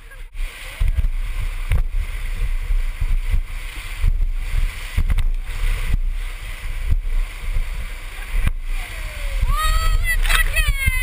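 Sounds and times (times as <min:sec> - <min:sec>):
heavy low rumble: 0:00.0 - 0:11.0
whitewater rushing and splashing: 0:00.0 - 0:11.0
sharp splashes or knocks: 0:00.3 - 0:11.0.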